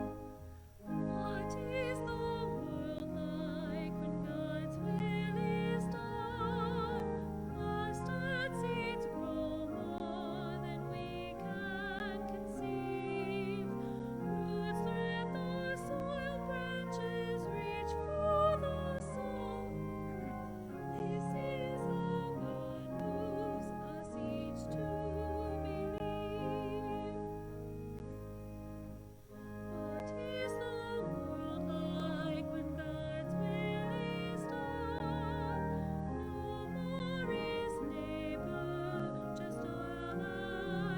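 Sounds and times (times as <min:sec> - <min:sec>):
classical singing with vibrato: 0:00.0 - 0:27.5, 0:29.6 - 0:40.9
sustained instrumental accompaniment: 0:00.0 - 0:40.9.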